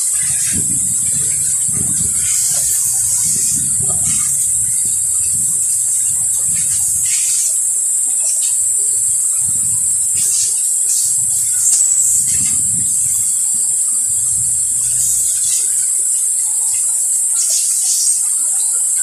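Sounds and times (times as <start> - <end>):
low uneven rumbling: 0.0 - 17.3
loud high-pitched hiss: 0.0 - 19.0.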